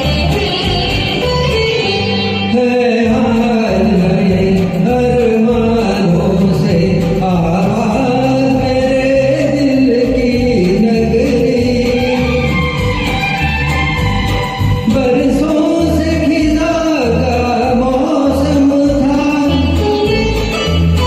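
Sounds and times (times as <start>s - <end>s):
backing track with steady beat: 0.0s - 21.0s
person singing: 0.0s - 21.0s.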